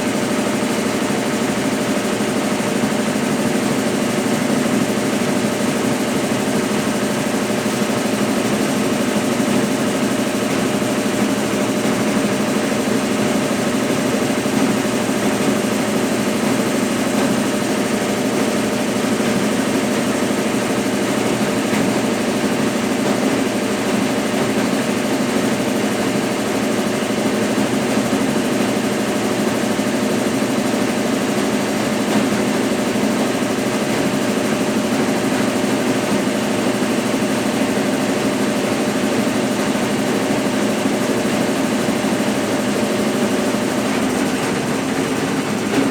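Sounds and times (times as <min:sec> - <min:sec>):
washing machine motor hum: 0:00.0 - 0:45.9.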